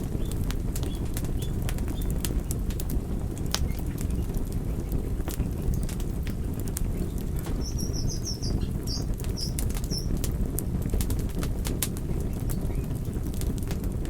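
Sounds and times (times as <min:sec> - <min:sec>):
fire pops and snaps: 0:00.0 - 0:14.0
fire rumbling: 0:00.0 - 0:14.0.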